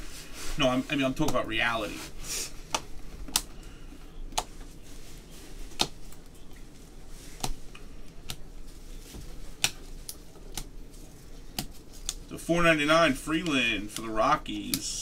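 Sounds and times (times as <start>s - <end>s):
faint rustling: 0.0s - 12.3s.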